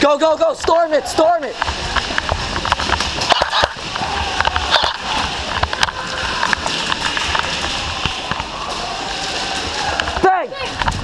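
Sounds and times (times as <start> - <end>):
footsteps running: 0.5 - 11.0
gear clicks and knocks: 1.6 - 11.0.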